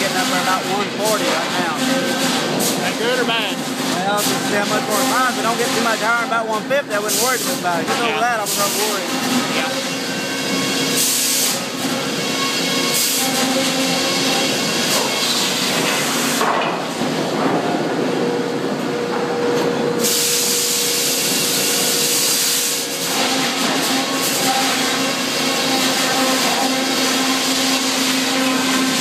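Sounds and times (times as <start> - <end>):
saw machinery humming: 0.0 - 16.4, 18.5 - 29.0
saw blade cutting log: 0.0 - 16.5, 20.1 - 29.0.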